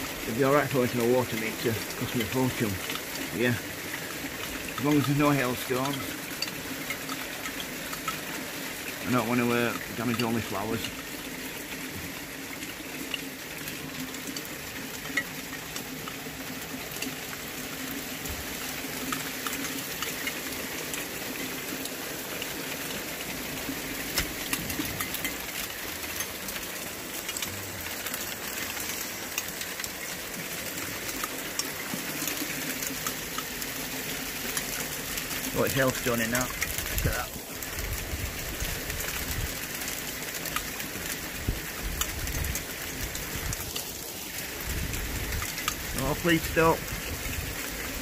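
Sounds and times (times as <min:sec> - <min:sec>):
heavy rain falling: 0:00.0 - 0:48.0
sharp ticks of raindrops: 0:00.0 - 0:48.0.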